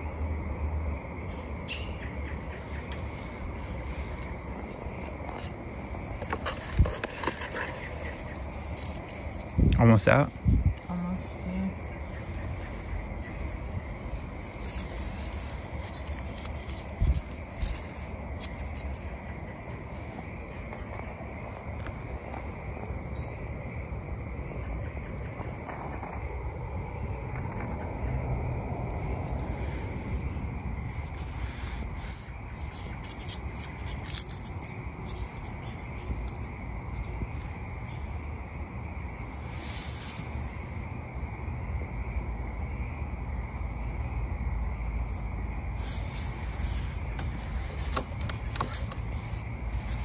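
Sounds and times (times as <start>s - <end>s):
stove low rumble: 2.2s - 50.0s
fire crackling: 2.5s - 41.7s, 44.6s - 50.0s.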